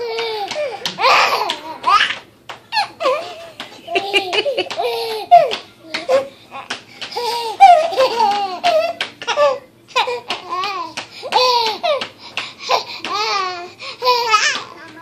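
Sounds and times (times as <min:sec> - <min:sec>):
baby laughing: 0:00.0 - 0:14.8.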